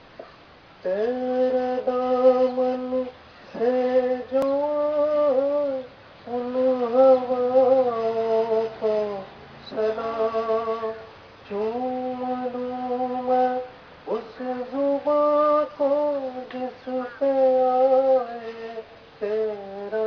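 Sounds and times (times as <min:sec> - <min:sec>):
man singing slow melody: 0:00.0 - 0:20.0.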